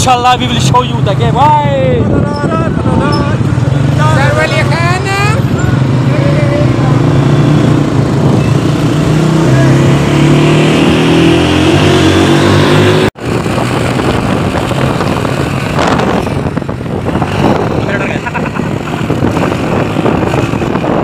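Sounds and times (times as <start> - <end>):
road and wind noise: 0.0 - 21.0
motorcycle engine accelerating: 3.0 - 21.0.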